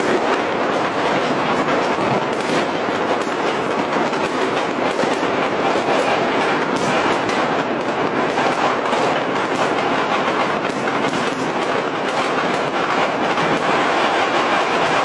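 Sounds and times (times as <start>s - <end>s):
firecrackers popping: 0.0s - 15.0s.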